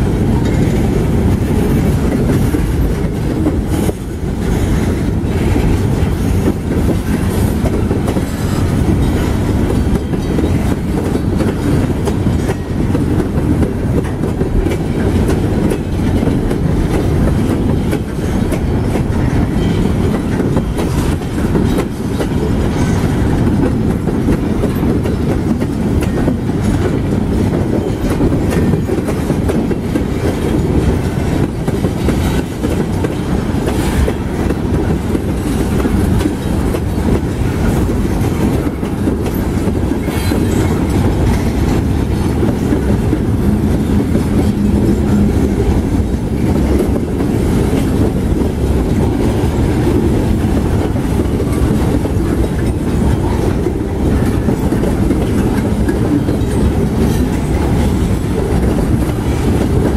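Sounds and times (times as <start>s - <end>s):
freight train rolling past: 0.0s - 59.9s
wheels clicking over rail joints: 0.2s - 59.9s.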